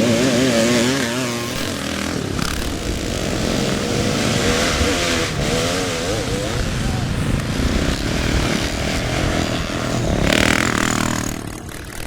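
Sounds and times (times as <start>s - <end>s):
motocross bike engines racing: 0.0s - 12.0s.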